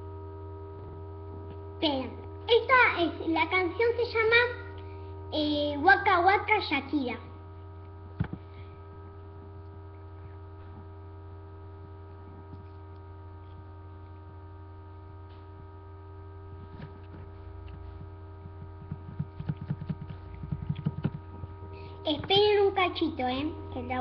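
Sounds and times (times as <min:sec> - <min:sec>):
constant tones: 0:00.0 - 0:24.0
electrical mains hum: 0:00.0 - 0:24.0.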